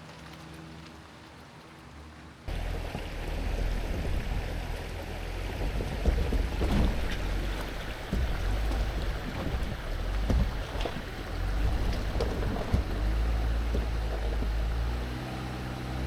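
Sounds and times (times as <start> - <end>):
low engine hum: 0.0 - 16.0
rough rumbling noise: 0.0 - 16.0.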